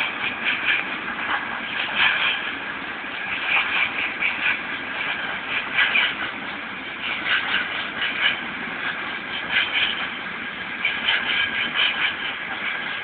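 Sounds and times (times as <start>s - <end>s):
freight train wagons rattling: 0.0s - 13.0s.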